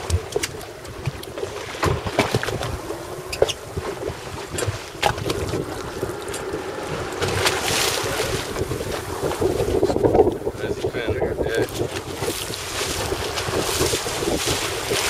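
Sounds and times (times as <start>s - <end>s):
water slapping against boat: 0.0s - 15.0s
wind buffeting microphone: 0.0s - 15.0s.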